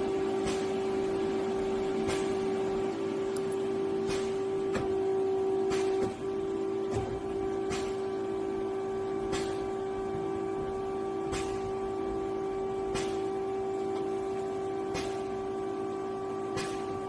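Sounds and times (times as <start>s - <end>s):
lathe mechanical whine: 0.0s - 17.0s.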